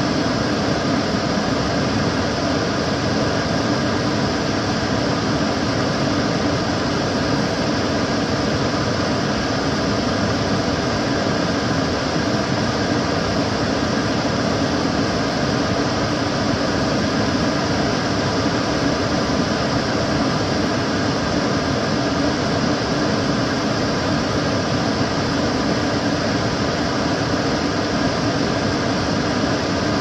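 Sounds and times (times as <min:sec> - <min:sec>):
extractor fan rushing air: 0:00.0 - 0:30.0.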